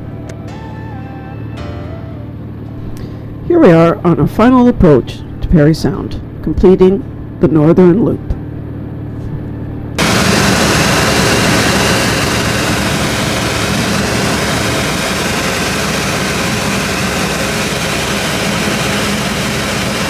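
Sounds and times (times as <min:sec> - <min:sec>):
plane engine and propeller droning: 0:00.0 - 0:20.0.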